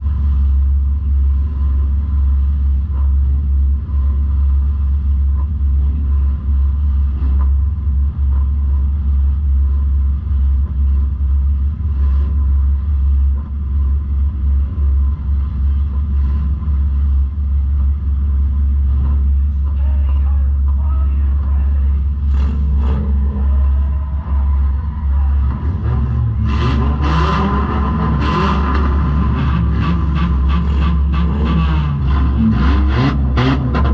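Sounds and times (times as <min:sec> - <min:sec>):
car engine rumbling: 0:00.0 - 0:33.9.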